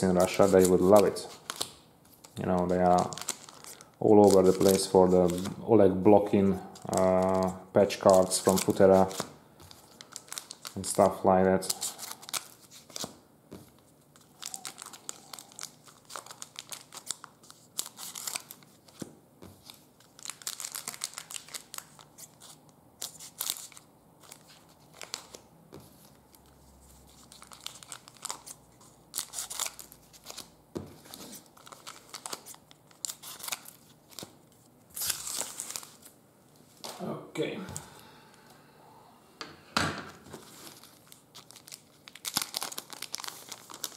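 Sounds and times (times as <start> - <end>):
card pack wrappers crinkling: 0.0 - 5.6, 6.7 - 36.2, 40.2 - 43.9.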